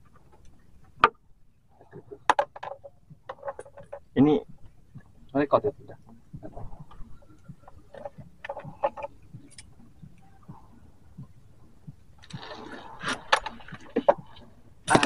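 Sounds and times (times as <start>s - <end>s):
light clicks and knocks of gear: 0.0s - 15.0s.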